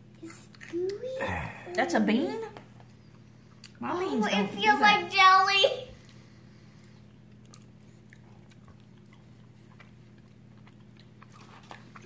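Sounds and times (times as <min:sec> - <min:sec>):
faint chewing: 0:00.0 - 0:03.8, 0:05.9 - 0:12.0
steady low hum: 0:00.0 - 0:12.0.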